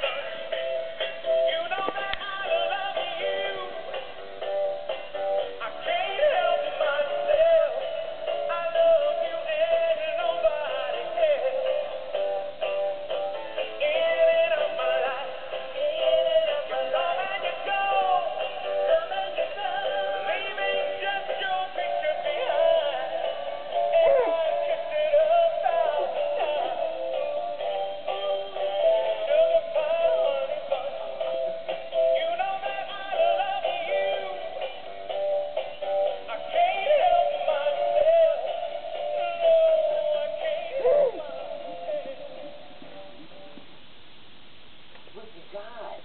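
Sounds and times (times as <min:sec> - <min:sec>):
toy singing with music: 0:00.0 - 0:42.6.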